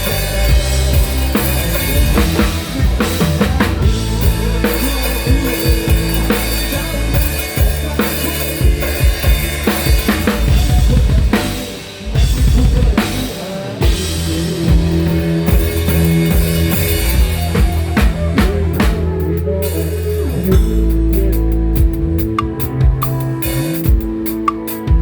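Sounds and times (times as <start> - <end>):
drum kit hits: 0.0 - 19.3, 20.4 - 25.0
rock band playing: 0.0 - 25.0.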